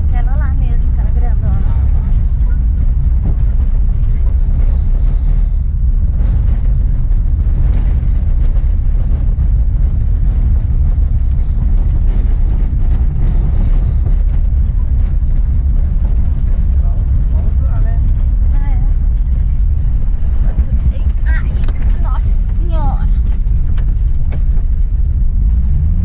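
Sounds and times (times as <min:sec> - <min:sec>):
van engine and road noise: 0:00.0 - 0:26.0.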